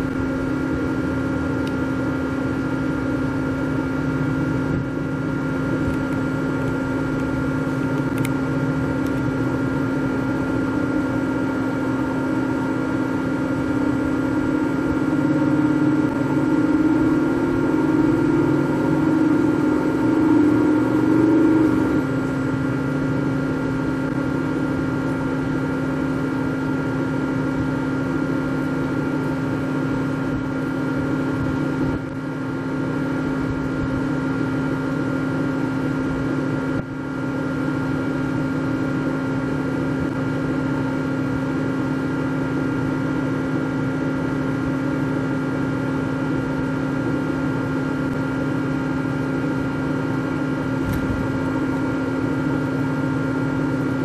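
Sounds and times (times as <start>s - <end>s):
machine whining tones: 0.0s - 38.0s, 47.1s - 54.0s
lathe machine hum: 0.0s - 54.0s.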